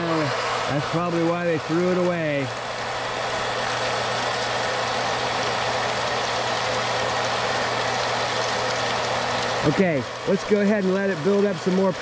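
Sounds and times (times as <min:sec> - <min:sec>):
electric pump humming: 0:00.0 - 0:12.0.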